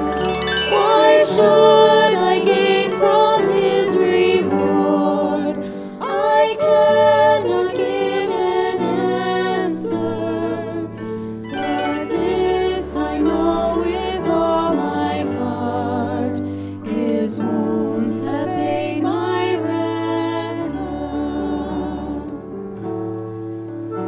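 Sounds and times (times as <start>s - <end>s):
piano chords: 0.0s - 24.0s
women singing a hymn: 0.7s - 22.7s.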